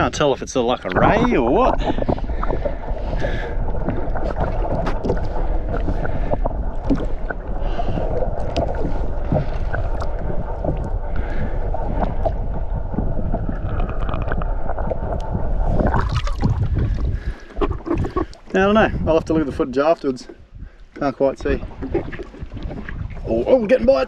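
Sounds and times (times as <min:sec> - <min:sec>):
steady wind: 0:00.0 - 0:24.0
water noise: 0:00.0 - 0:24.0.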